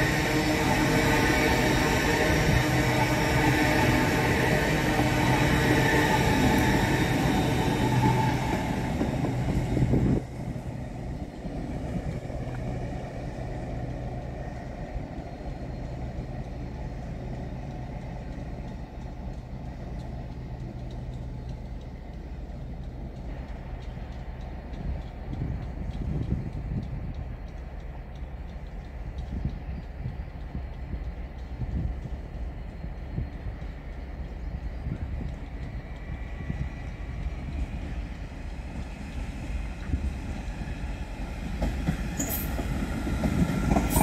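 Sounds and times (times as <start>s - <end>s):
distant train low hum: 0.0s - 44.0s
train passing with rumble and hiss: 0.0s - 44.0s.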